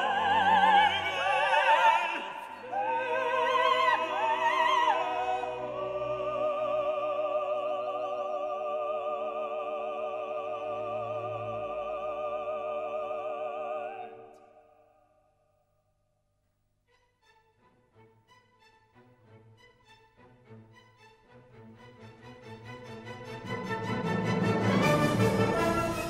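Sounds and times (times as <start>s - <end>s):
operatic voices with orchestra: 0.0s - 15.0s, 18.9s - 26.0s.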